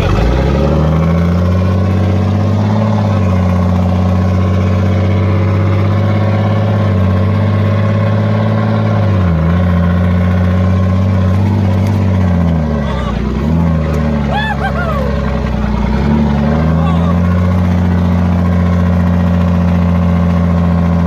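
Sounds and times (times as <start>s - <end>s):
truck diesel engine pulling: 0.0s - 21.0s.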